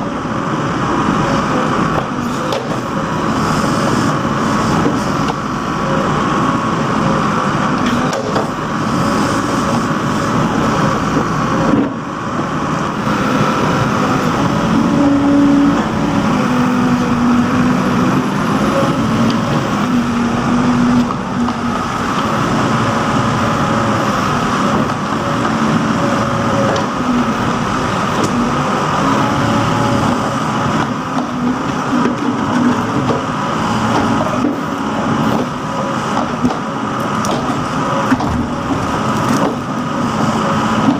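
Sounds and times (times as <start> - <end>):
backhoe diesel engine digging: 0.0 - 40.9.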